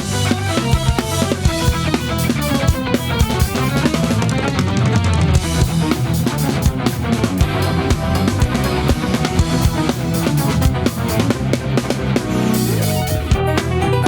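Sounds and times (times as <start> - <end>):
drum kit played live: 0.0 - 14.0
rock backing track with guitar: 0.0 - 14.0.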